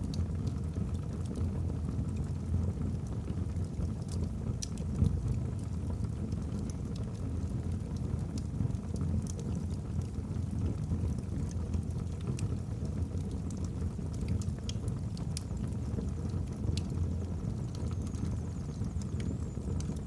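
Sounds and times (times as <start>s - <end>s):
fire crackling and popping: 0.0s - 20.0s
low rumble of flame: 0.0s - 20.0s.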